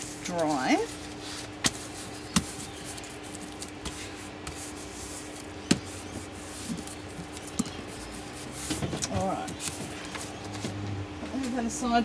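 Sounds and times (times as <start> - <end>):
hands rubbing paper: 0.0 - 10.5.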